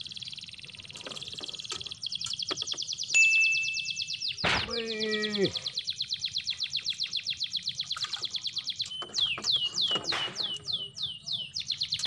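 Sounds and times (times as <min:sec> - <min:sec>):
bird singing falling chirps: 0:00.0 - 0:12.0.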